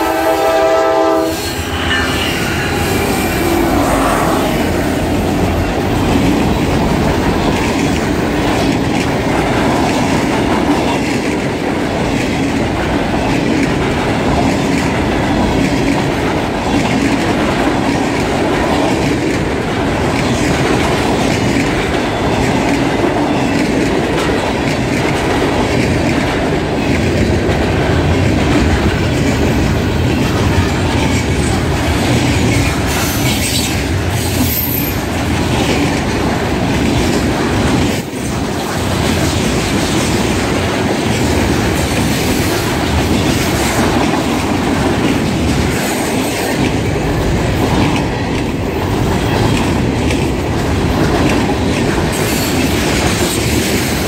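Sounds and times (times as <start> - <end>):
train cars clattering: 0.0 - 54.0
train wheels rumbling on rails: 0.0 - 54.0.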